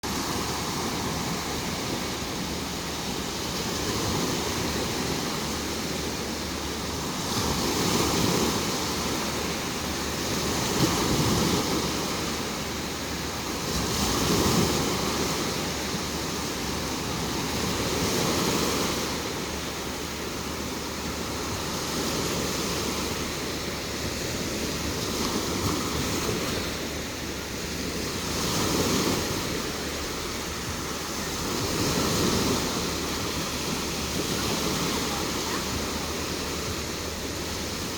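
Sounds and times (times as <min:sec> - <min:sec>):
surf breaking on sandy beach: 0:00.0 - 0:37.9.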